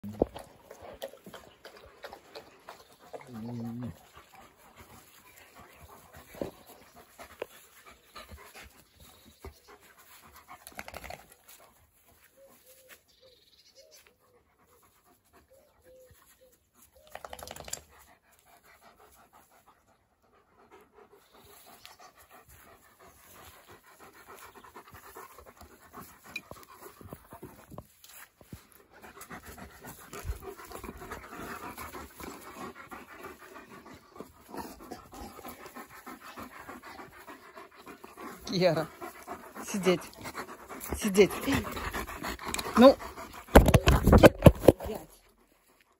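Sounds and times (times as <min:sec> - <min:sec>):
dog panting: 0:00.0 - 0:13.0, 0:13.9 - 0:45.9.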